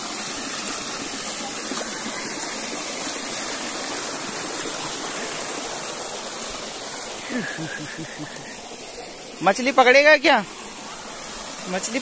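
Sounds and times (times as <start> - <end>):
stream rushing over stones: 0.0 - 12.0.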